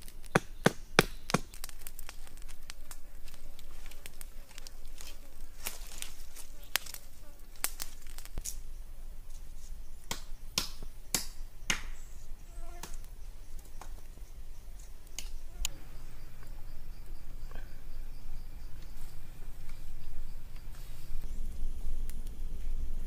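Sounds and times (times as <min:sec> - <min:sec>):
faint low background noise: 0:00.0 - 0:23.0.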